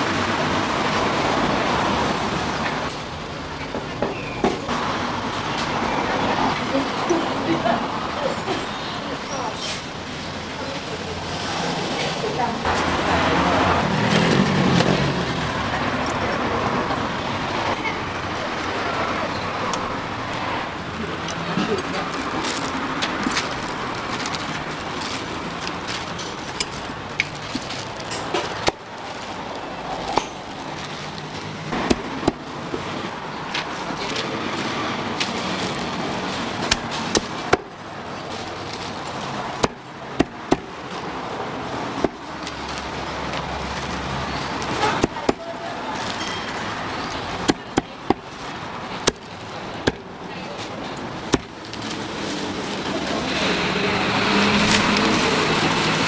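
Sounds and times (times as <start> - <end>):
food preparation background noise: 0.0 - 56.0.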